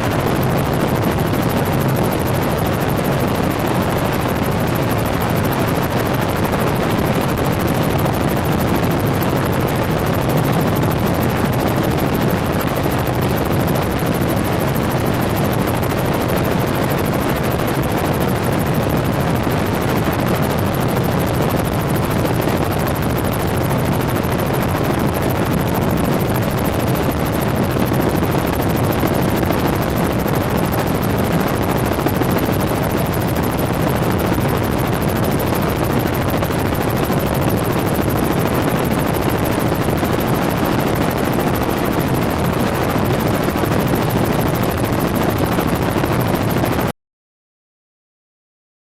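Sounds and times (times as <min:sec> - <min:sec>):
helicopter rotor and engine drone: 0:00.0 - 0:47.0.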